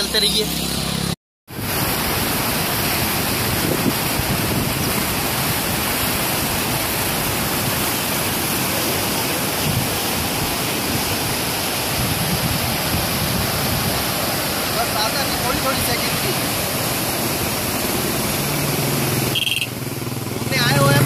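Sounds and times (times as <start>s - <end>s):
water rushing and churning: 0.0s - 21.0s.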